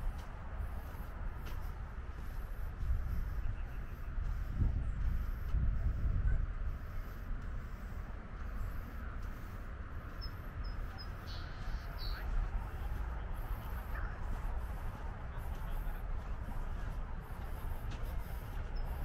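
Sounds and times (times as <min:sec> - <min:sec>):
faint murmur: 0:00.0 - 0:19.0.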